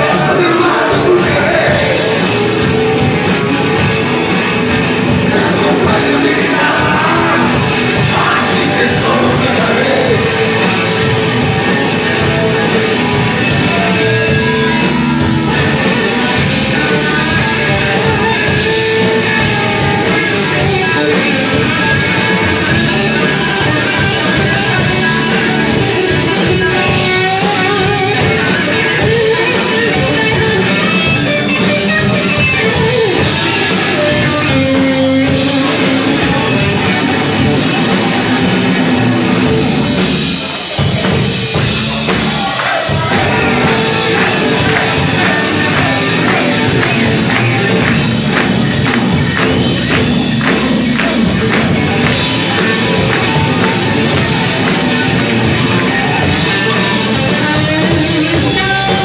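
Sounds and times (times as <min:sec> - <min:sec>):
rock music with electric guitar: 0:00.0 - 0:59.0.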